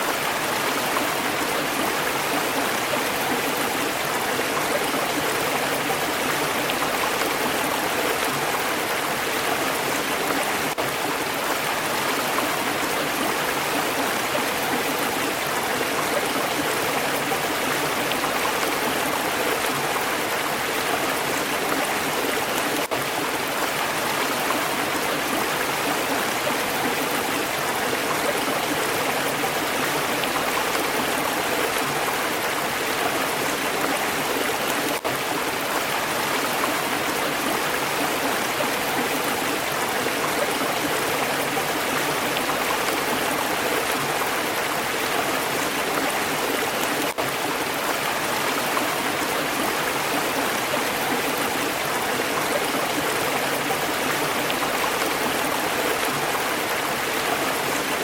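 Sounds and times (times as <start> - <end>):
stream water flowing over rocks: 0.0 - 58.0.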